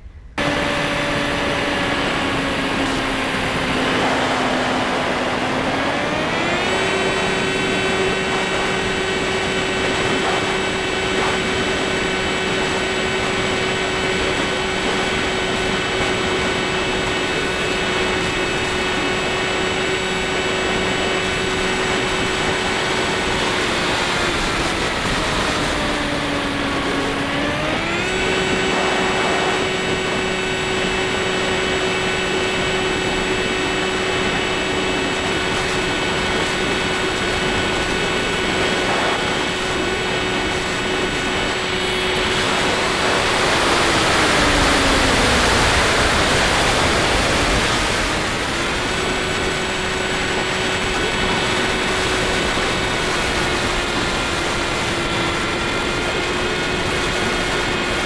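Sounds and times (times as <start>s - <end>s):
electric motor and propeller whining: 0.0s - 58.0s
rushing wind noise: 0.0s - 58.0s.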